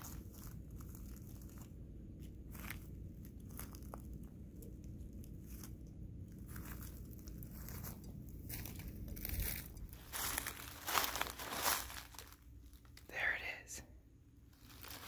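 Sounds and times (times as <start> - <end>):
footsteps crunching through dry leaves: 0.0 - 4.3, 5.3 - 12.9, 14.5 - 15.0
steady low rumble: 0.0 - 15.0.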